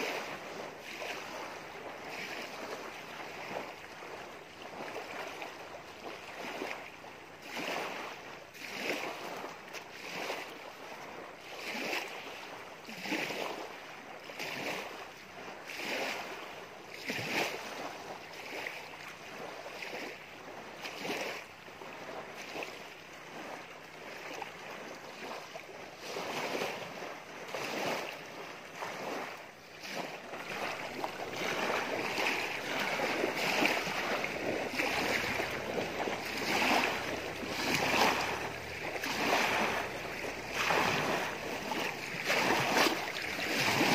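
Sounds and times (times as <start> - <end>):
small waves lapping on shore: 0.0 - 43.9.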